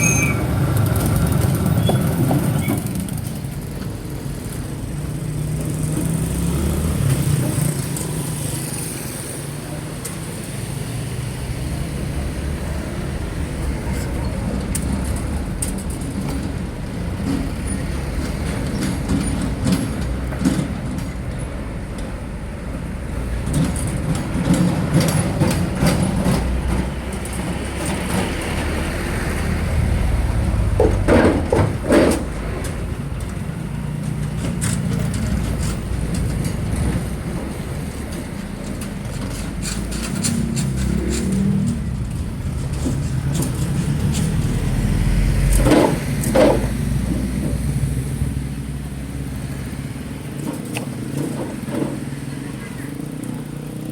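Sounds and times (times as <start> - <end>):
trucks and buses passing: 0.0 - 53.9.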